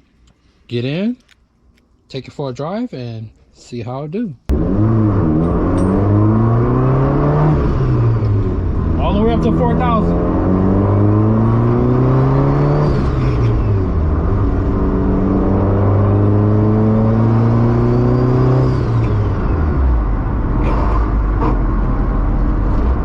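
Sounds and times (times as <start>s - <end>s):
car engine revving: 4.5s - 23.0s
road noise: 4.5s - 23.0s.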